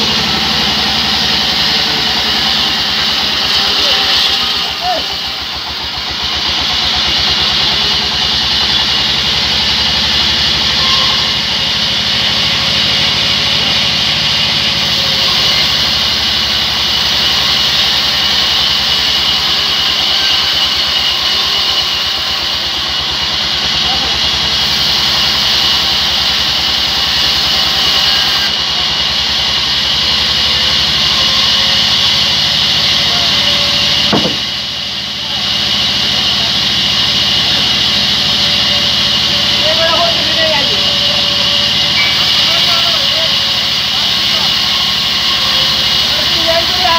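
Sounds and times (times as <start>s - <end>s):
band saw blade cutting wood: 0.0s - 46.9s
saw drive hum: 0.0s - 46.9s.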